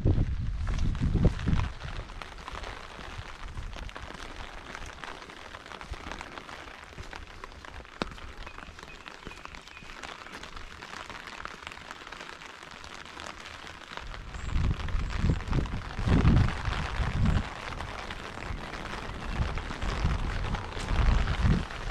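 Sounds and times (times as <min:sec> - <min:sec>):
steady rain falling: 0:00.0 - 0:21.9
raindrop ticks: 0:00.2 - 0:21.9.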